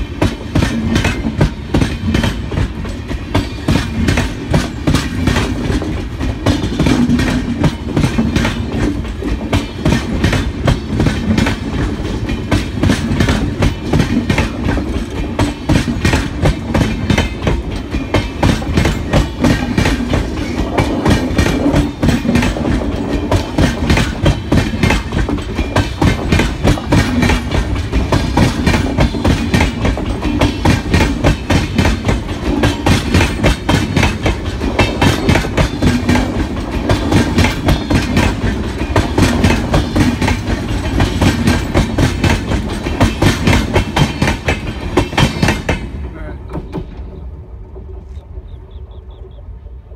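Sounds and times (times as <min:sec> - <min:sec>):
train wheels clickety-clack: 0:00.0 - 0:49.7.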